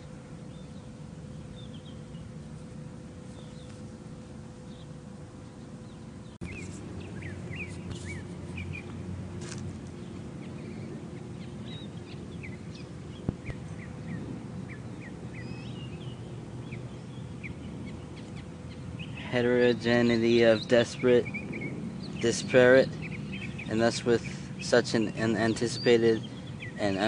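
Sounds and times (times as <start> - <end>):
small birds chirping: 0.0 - 3.9, 4.6 - 9.0, 9.9 - 27.0
low background hum: 0.0 - 27.0.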